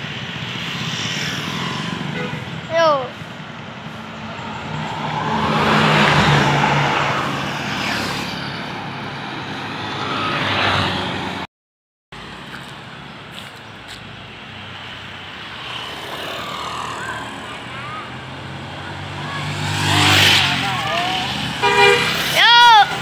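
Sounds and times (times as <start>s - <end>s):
steady traffic noise: 0.0s - 11.5s, 12.1s - 23.0s
vehicles passing close by: 0.0s - 11.5s, 12.2s - 23.0s.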